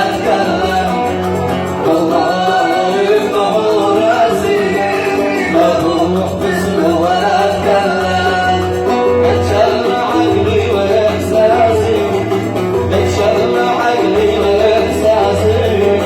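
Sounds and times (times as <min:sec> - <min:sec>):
man singing: 0:00.0 - 0:16.0
oud plucked melody: 0:00.0 - 0:16.0.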